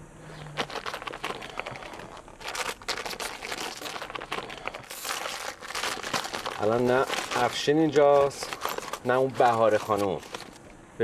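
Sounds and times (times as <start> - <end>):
foil wrapper crinkling and tearing: 0.4 - 10.7.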